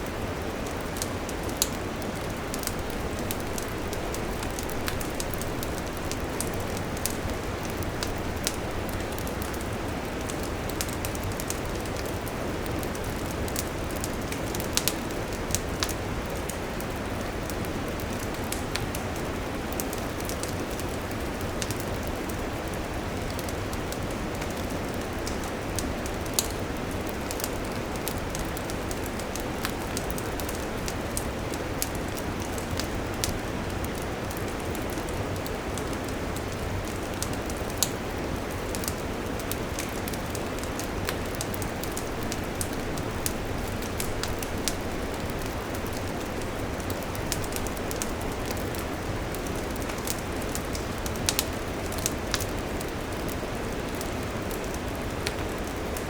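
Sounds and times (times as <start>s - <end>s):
campfire crackling and popping: 0.1s - 56.0s.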